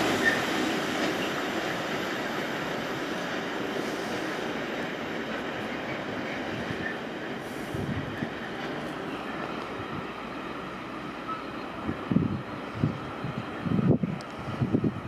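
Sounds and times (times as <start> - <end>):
freight train rolling on track: 0.0 - 15.0.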